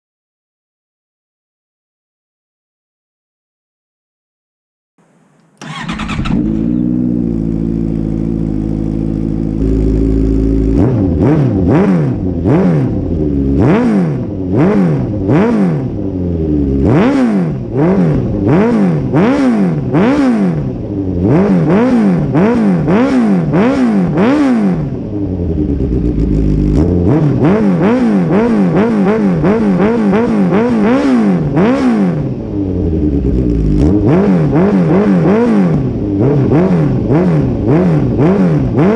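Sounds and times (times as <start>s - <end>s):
motorcycle engine revving: 5.0s - 38.9s.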